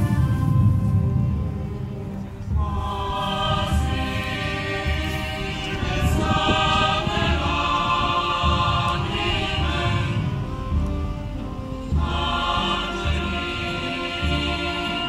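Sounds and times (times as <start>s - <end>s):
choir singing a hymn: 0.0s - 15.0s
wind band playing: 0.0s - 15.0s.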